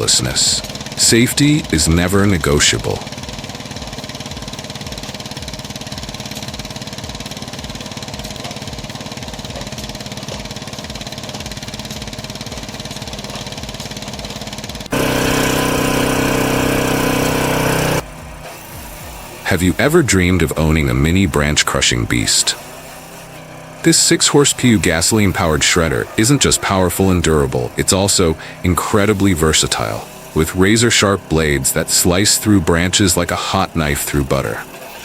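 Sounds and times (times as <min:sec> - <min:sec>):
engine machinery running: 0:00.0 - 0:35.0.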